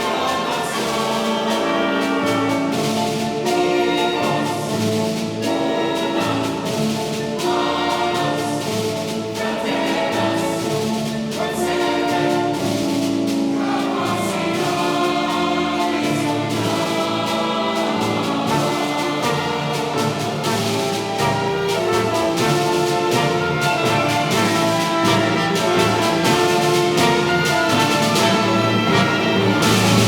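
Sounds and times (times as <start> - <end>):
choir singing: 0.0 - 30.0
orchestra playing sustained chords: 0.0 - 30.0.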